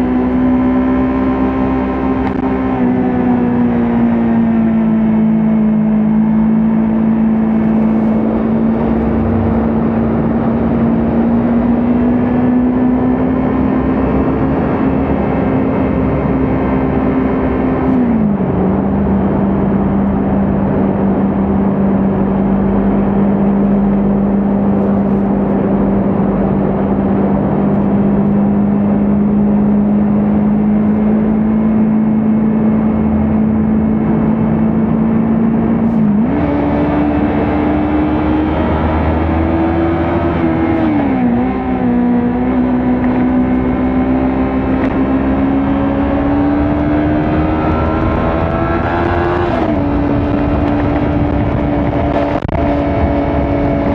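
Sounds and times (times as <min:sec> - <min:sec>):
motorcycle engine running: 0:00.0 - 0:36.2, 0:40.0 - 0:53.9
wind and road noise: 0:00.0 - 0:53.9.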